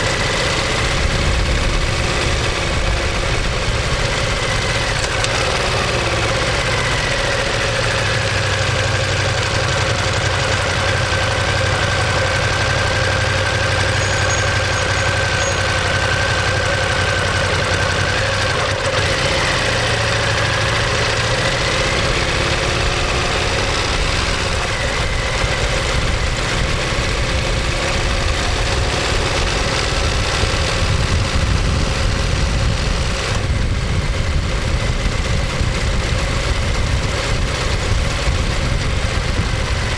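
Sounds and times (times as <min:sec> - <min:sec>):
motorcycle engine and exhaust running: 0:00.0 - 0:39.9.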